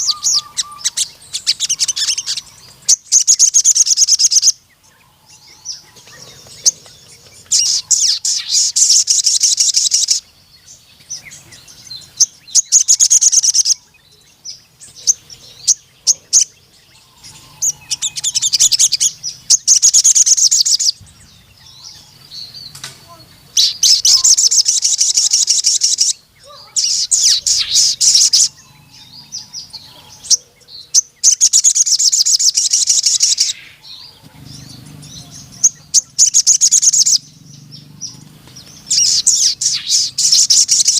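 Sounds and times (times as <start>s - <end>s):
sunbird singing trilled song: 0.0s - 40.9s.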